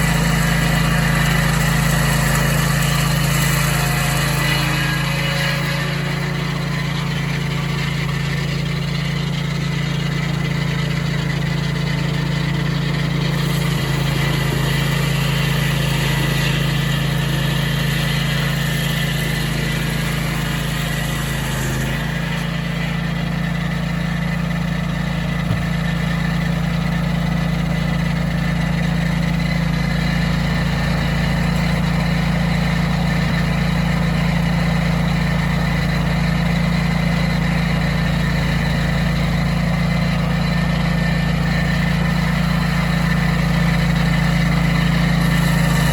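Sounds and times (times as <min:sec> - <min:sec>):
saw blade cutting log: 0:00.0 - 0:45.9
sawmill engine running: 0:00.0 - 0:45.9.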